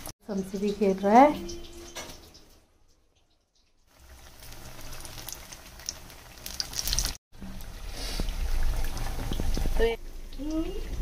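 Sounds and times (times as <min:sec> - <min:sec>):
pakoras deep-frying in hot oil: 0:00.0 - 0:11.0.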